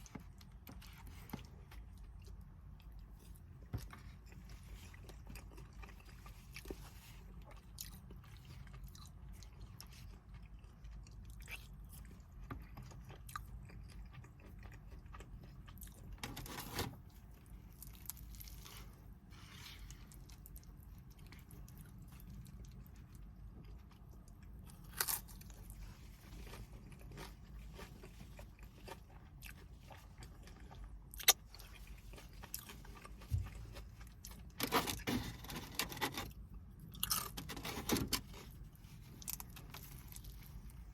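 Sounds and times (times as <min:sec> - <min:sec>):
person chewing and crunching: 0:00.0 - 0:40.9.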